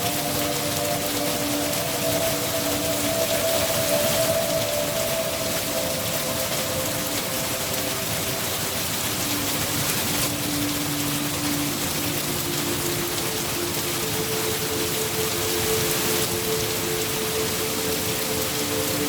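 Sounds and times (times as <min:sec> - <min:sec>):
low ambient drone: 0:00.0 - 0:19.0
steady rain falling: 0:00.0 - 0:19.0.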